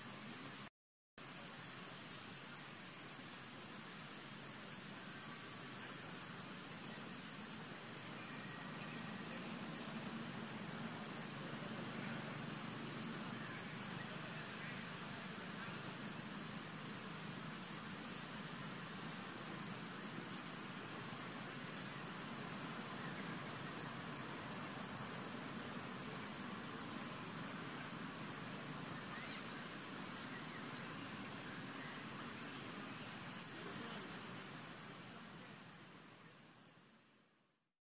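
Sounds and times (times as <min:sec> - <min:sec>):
insects droning in trees: 0:00.0 - 0:37.7.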